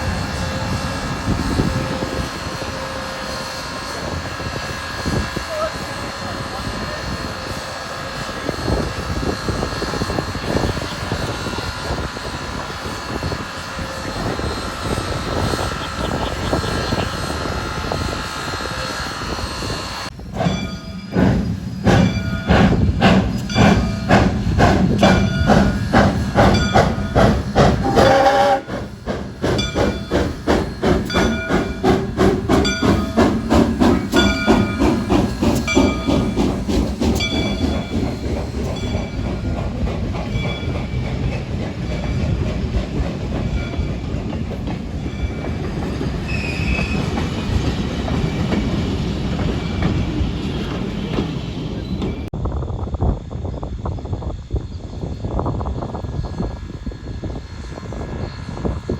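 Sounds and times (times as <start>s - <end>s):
train passing: 0.0s - 54.4s.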